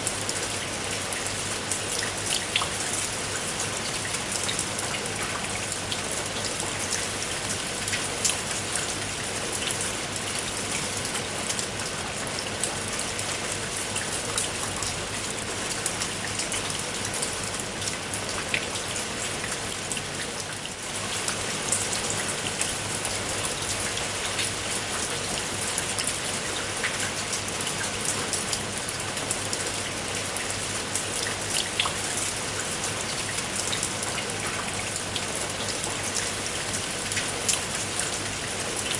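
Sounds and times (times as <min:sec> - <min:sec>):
rain pattering on hard surface: 0:00.0 - 0:38.9.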